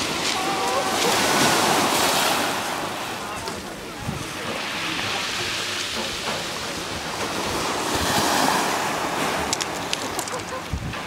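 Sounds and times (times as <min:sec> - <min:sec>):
waves washing on pebble shore: 0:00.0 - 0:11.0.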